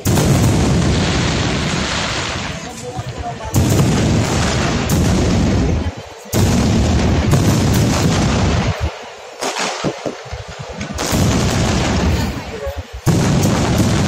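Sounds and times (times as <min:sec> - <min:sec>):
fireworks booming: 0:00.0 - 0:14.0.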